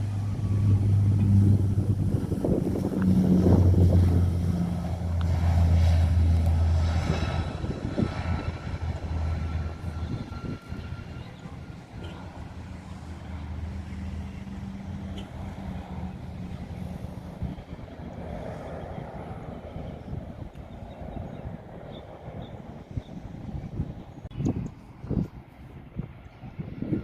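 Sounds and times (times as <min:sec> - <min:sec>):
aircraft engines droning: 0:00.0 - 0:27.0
faint engine whine: 0:00.0 - 0:27.0.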